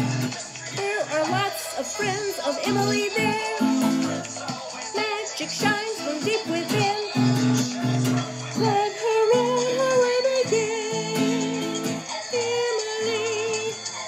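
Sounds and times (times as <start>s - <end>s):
acoustic guitar strumming: 0.0s - 13.8s
recorded backing track: 0.0s - 14.0s
woman singing with vibrato: 0.0s - 14.0s.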